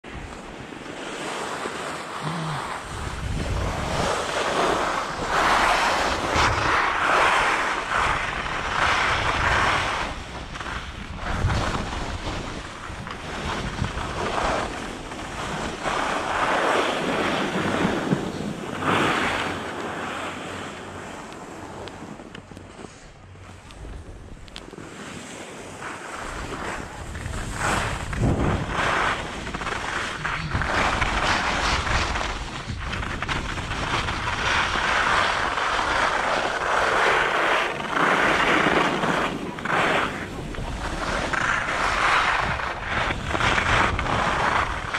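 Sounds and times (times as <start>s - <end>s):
skis scraping across snow: 0.1s - 44.9s
wind buffeting microphone: 2.7s - 24.7s, 25.5s - 44.9s.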